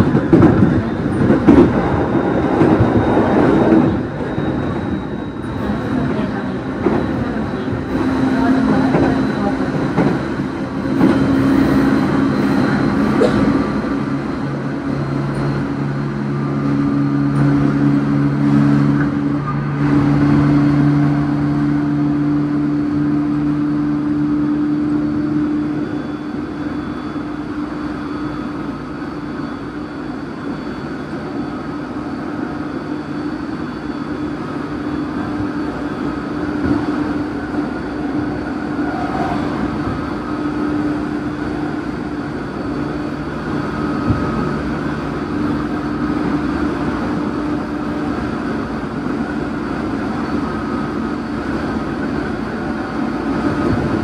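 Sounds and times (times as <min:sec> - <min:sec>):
train motor hum: 0:00.0 - 0:54.0
wheels rumbling on rails: 0:00.0 - 0:54.0.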